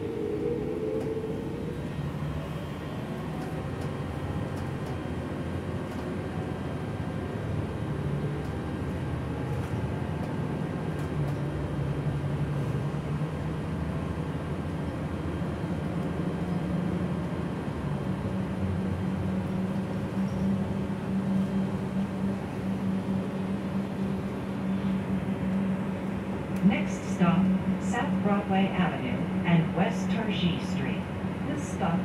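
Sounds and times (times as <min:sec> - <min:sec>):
bus engine hum: 0:00.0 - 0:32.0.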